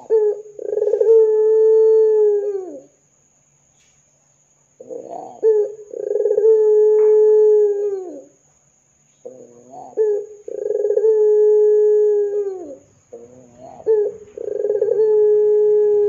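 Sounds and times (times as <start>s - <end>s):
dove cooing: 0.0s - 2.9s, 4.8s - 8.3s, 9.2s - 16.0s.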